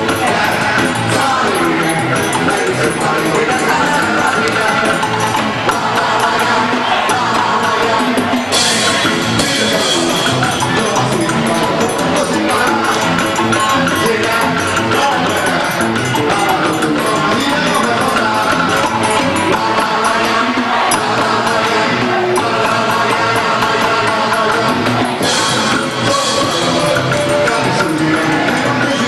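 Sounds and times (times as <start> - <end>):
folk dance music with percussion: 0.0 - 29.0.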